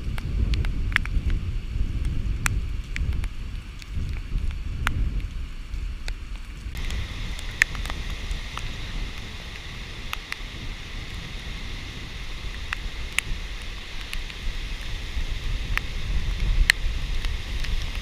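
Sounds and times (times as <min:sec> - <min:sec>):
rain drops ticking: 0:00.0 - 0:18.0
steady hiss: 0:00.0 - 0:18.0
wind gusting on microphone: 0:00.0 - 0:18.0.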